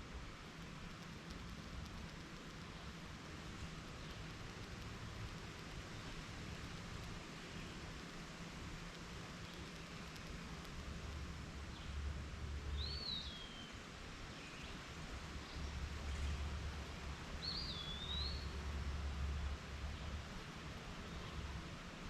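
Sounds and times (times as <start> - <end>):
outdoor hiss: 0.0 - 22.0.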